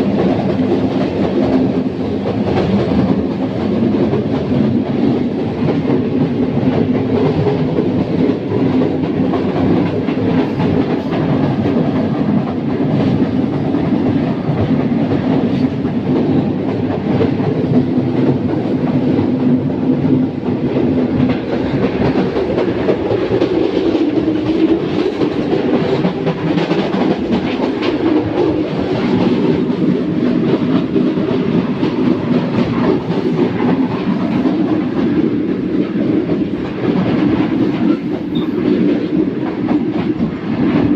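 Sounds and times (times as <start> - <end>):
train track rumble: 0.0 - 40.9
wheels clicking on rails: 0.0 - 40.9.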